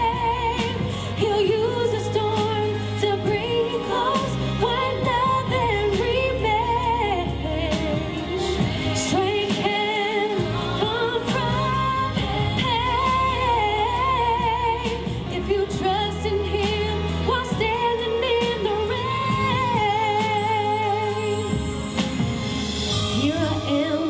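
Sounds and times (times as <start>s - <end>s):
instrumental accompaniment: 0.0s - 24.0s
woman singing a ballad: 0.0s - 24.0s.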